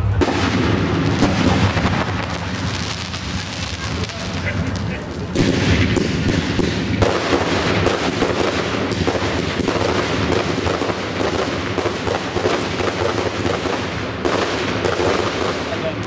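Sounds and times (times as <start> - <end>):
firework bangs: 0.0 - 16.0
firework fountains hissing: 0.0 - 16.0.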